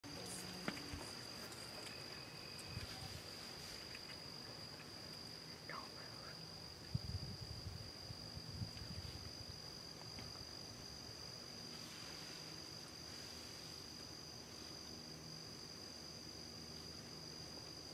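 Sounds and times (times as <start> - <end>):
insects droning: 0.0 - 17.9.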